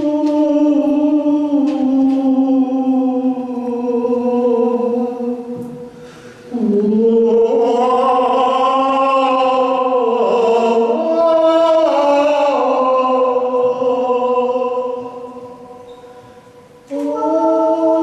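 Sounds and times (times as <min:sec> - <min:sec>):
man and woman singing in harmony: 0:00.0 - 0:18.0.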